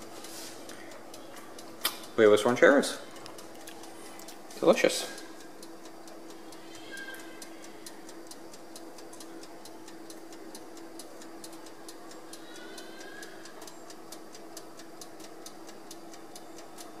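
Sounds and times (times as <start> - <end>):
steady low hum: 0.0 - 17.0
fast clock-like ticking: 0.9 - 17.0.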